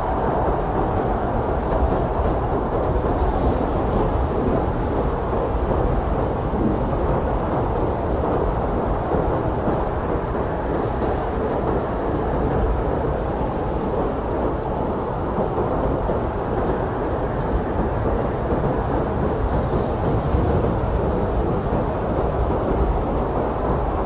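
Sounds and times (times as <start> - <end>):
blizzard wind rushing: 0.0 - 24.0.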